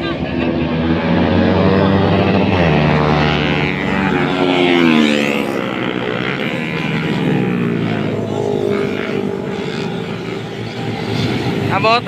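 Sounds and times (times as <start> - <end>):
motorcycle passing by: 0.0 - 12.0
motorcycles running along road: 0.0 - 12.0.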